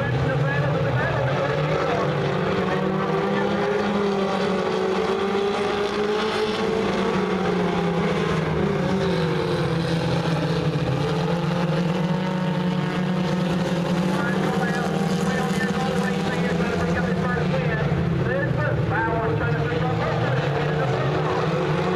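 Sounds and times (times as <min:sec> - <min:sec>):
race car engines droning: 0:00.0 - 0:21.9.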